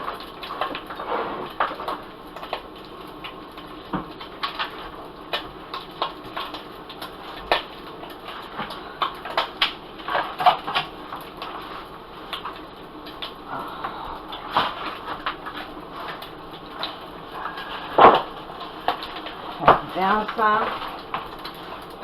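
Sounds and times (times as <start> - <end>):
frying hiss: 0.0 - 22.0.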